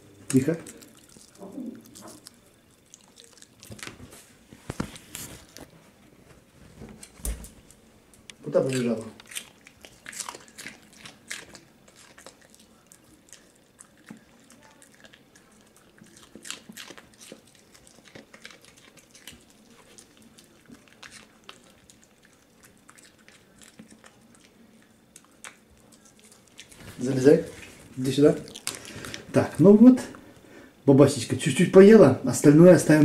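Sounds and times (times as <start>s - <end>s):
dog crunching vegetable: 0.3s - 5.8s, 6.9s - 30.2s.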